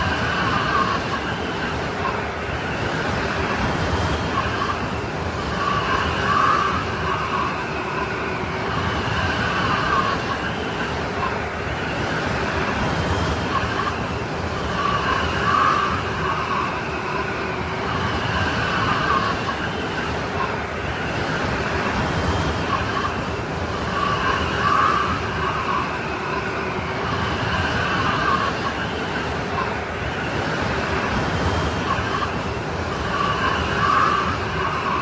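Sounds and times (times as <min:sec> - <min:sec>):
howling snowstorm wind: 0:00.0 - 0:35.0.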